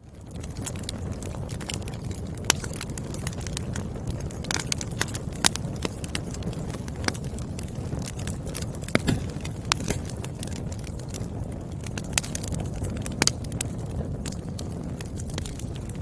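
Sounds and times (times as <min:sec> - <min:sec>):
firewood crackling: 0:00.0 - 0:16.0
low fire rumble: 0:00.0 - 0:16.0.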